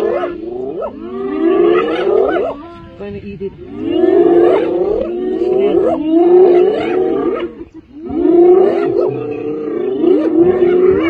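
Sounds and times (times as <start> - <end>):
hyenas calling: 0.0 - 11.0.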